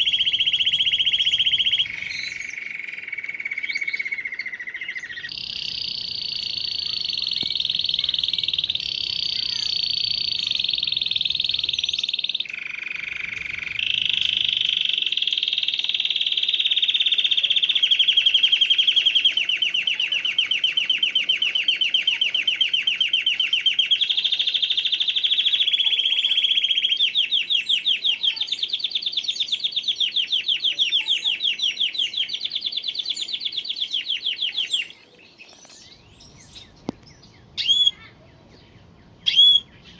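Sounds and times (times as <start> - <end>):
canary singing trills: 0.0 - 39.9
faint bird chirps: 0.0 - 39.9.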